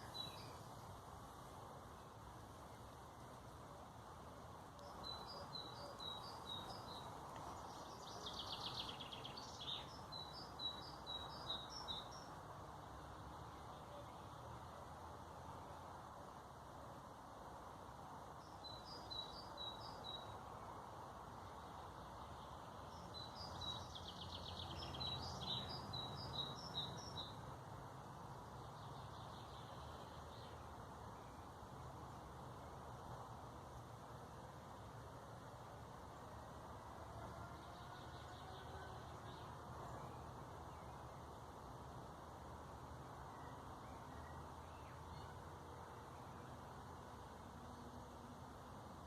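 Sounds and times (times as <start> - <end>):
songbirds singing: 0.0 - 16.2, 17.7 - 49.0
faint low background rush: 0.0 - 49.0
steady background noise: 0.0 - 49.0.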